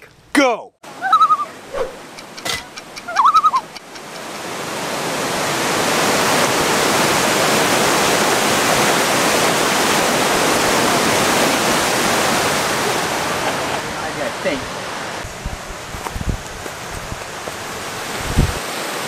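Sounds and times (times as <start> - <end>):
water rushing over rocks: 3.6 - 19.0.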